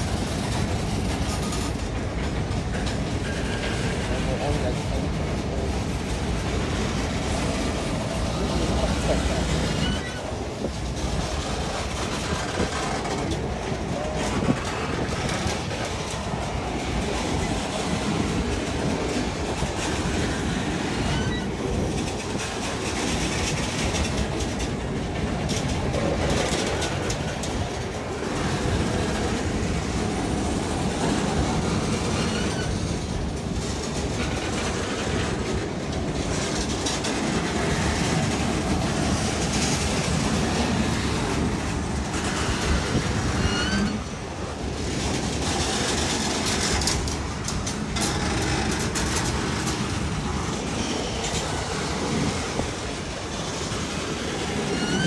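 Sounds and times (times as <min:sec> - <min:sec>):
freight train cars rolling past: 0:00.0 - 0:55.0
wheels clicking over rail joints: 0:00.0 - 0:55.0.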